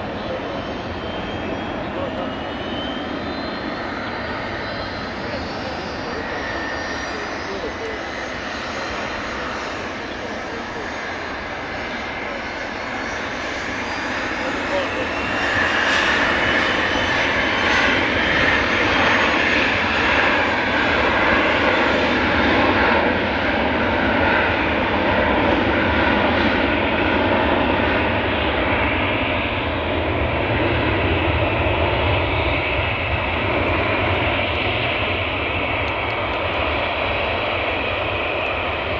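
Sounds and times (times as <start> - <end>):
jet engines at takeoff: 0.0 - 38.9.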